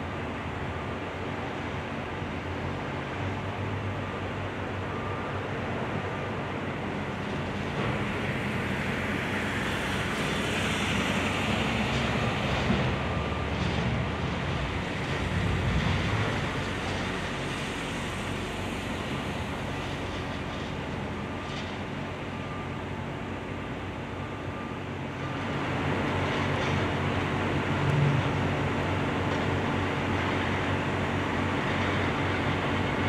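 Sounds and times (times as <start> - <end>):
diesel excavator engines droning: 0.0 - 33.0.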